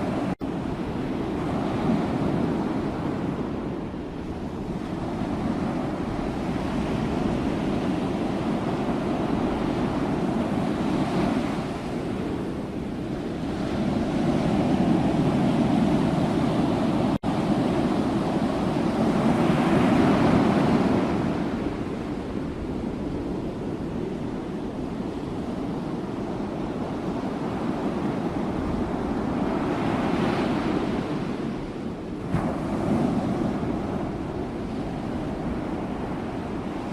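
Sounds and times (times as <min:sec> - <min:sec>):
ocean waves breaking on shore: 0:00.0 - 0:36.9.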